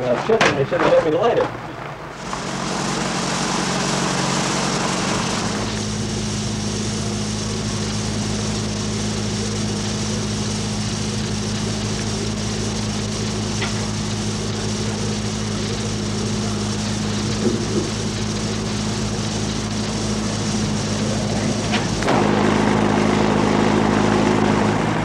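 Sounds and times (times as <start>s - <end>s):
machine hum with hiss: 2.0s - 25.0s.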